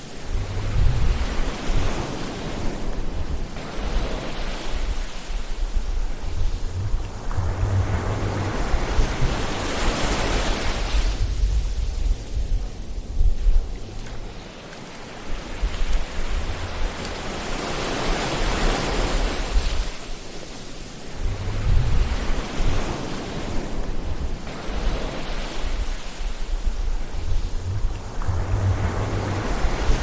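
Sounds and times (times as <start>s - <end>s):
ocean waves surf rush: 0.0s - 11.8s, 14.1s - 30.0s.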